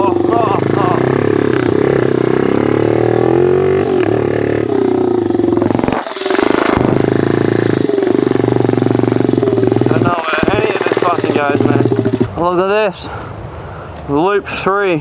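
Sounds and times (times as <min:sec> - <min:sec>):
small motorbike engine droning: 0:00.0 - 0:12.3.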